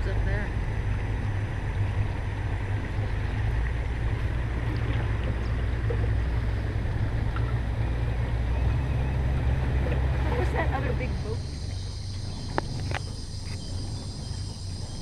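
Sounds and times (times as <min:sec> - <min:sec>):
boat motor running: 0:00.0 - 0:15.0
water rushing: 0:00.0 - 0:15.0.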